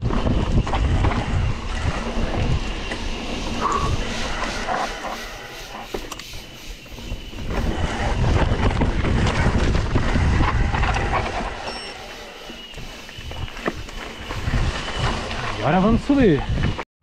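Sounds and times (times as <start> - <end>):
wind rumble on microphone: 0.0 - 16.8.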